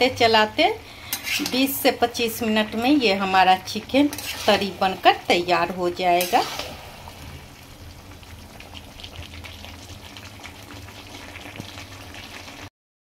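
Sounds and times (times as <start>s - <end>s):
curry sizzling in oil: 0.0s - 12.7s.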